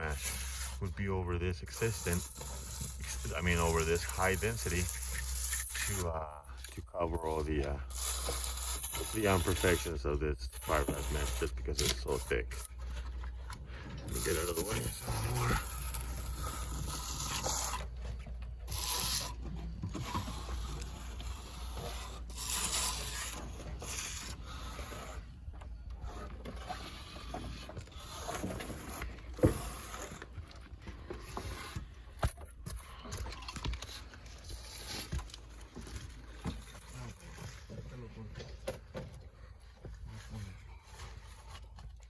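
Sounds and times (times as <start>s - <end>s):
trowel scraping: 0.0s - 42.0s.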